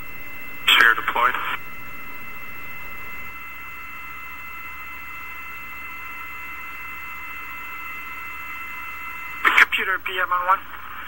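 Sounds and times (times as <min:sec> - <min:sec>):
radio hiss and low hum: 0:00.0 - 0:11.0.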